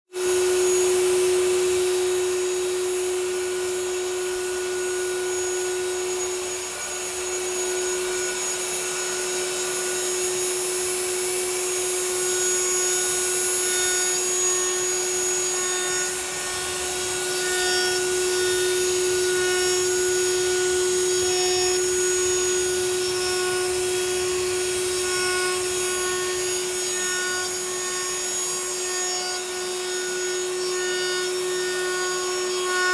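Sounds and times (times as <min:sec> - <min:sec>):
router spindle steady tone: 0:00.2 - 0:30.6
cutter hissing in metal: 0:00.2 - 0:32.5.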